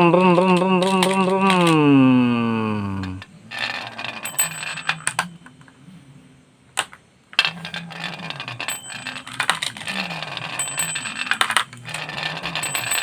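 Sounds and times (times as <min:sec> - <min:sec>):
toy cars rattling and clicking: 0:00.0 - 0:01.8, 0:03.0 - 0:05.7, 0:06.8 - 0:13.0.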